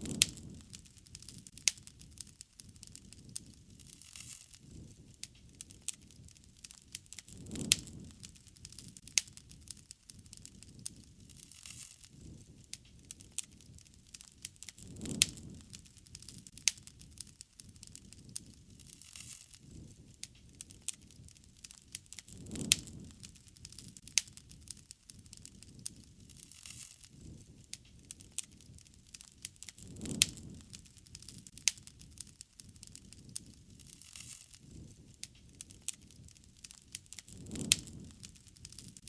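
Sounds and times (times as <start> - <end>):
campfire crackling and popping: 0.0 - 39.0
low swell of flames: 0.0 - 39.0.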